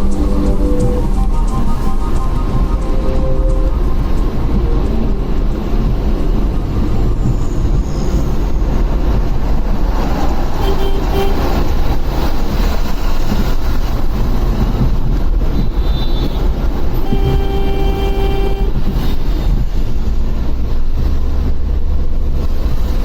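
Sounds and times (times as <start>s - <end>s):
surrounding traffic: 0.0s - 23.0s
wind and road noise: 0.0s - 23.0s.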